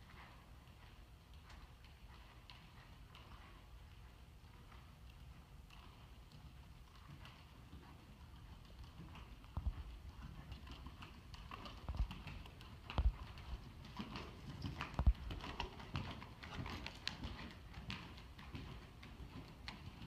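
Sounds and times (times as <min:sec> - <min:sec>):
horse hoofbeats on sand: 0:00.0 - 0:20.0.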